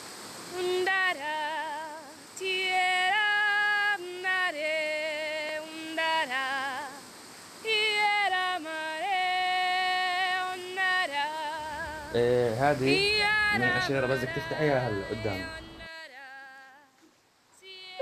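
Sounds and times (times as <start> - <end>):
woman singing a lullaby: 0.5 - 12.2, 12.8 - 18.0.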